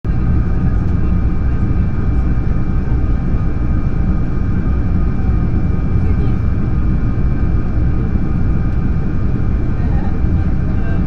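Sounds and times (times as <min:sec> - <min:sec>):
jet engines running: 0:00.1 - 0:11.0.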